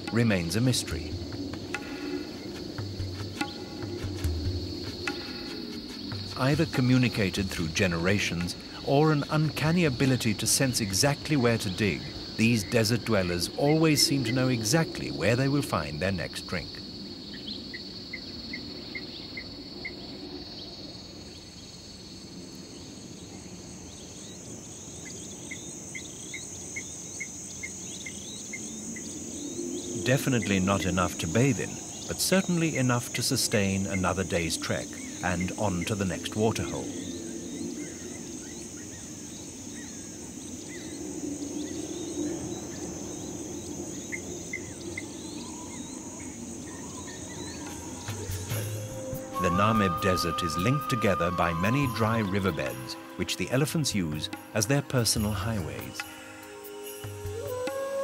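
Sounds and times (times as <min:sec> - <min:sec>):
insect chirping: 0:00.0 - 0:58.0
insects droning: 0:00.0 - 0:58.0.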